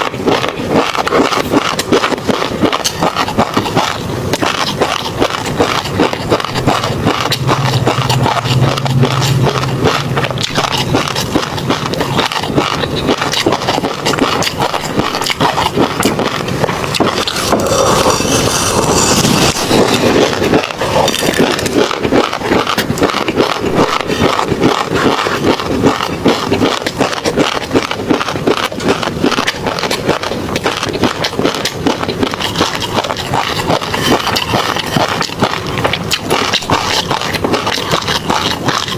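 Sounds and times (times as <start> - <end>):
chewing fish roe pops: 0.0 - 38.9.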